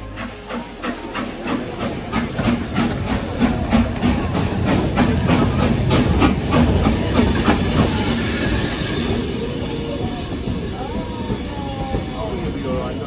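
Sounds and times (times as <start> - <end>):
steam hissing: 0.0 - 13.0
steam train chugging: 0.0 - 13.0.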